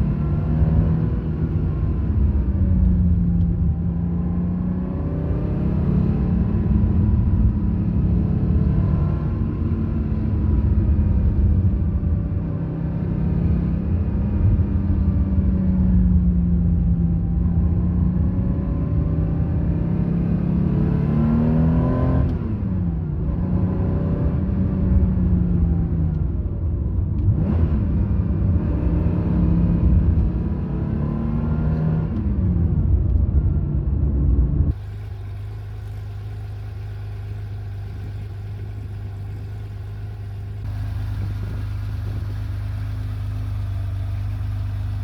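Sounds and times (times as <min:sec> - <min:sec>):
car engine revving while driving: 0:00.0 - 0:45.0.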